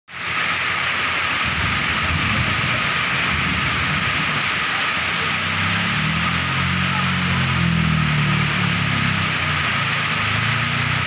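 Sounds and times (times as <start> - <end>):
heavy rain pouring: 0.1 - 11.0
low engine hum: 0.1 - 11.0.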